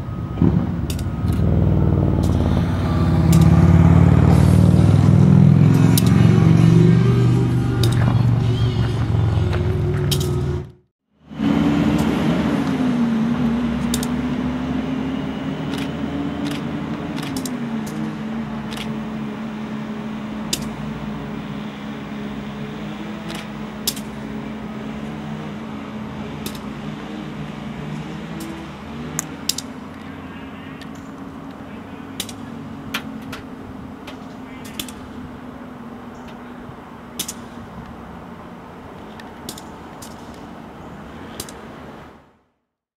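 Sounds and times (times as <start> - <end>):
diesel engine running: 0.0 - 41.4.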